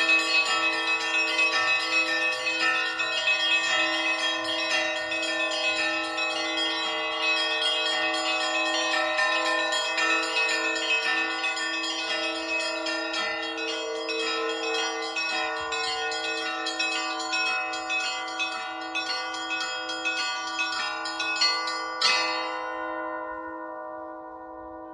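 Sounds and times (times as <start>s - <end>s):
small bells ringing quickly: 0.0s - 23.2s.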